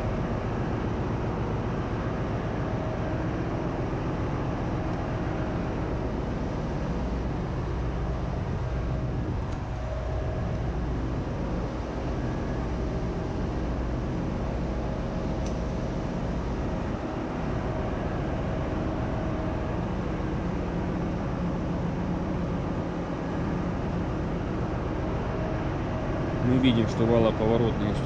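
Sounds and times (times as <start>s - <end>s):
constant low hum: 0.0s - 28.0s
engine room machinery din: 0.0s - 28.0s.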